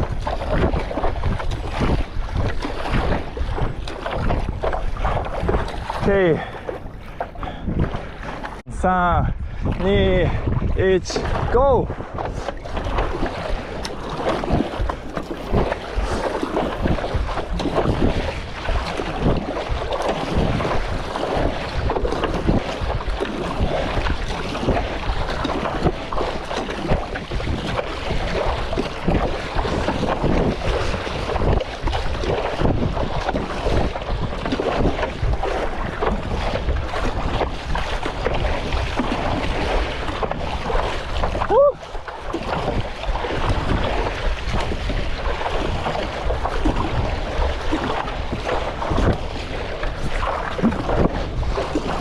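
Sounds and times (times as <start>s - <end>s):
choppy sea water: 0.0s - 52.0s
paddle splashing water: 0.0s - 52.0s
strong wind buffeting microphone: 0.0s - 52.0s.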